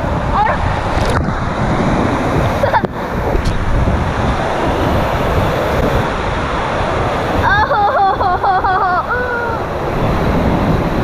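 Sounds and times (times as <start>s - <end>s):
rushing water: 0.0s - 11.0s
wind buffeting microphone: 0.0s - 11.0s.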